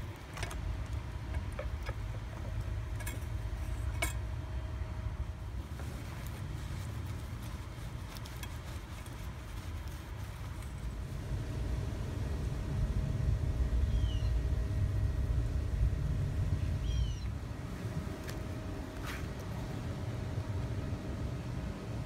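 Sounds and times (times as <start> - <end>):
outdoor background rumble: 0.0 - 22.0
thin steady hum: 0.0 - 22.0.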